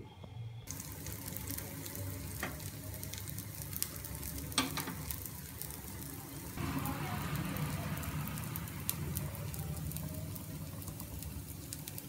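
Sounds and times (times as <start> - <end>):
batter sizzling on hot griddle: 0.7 - 12.0
sharp crackles: 0.7 - 12.0.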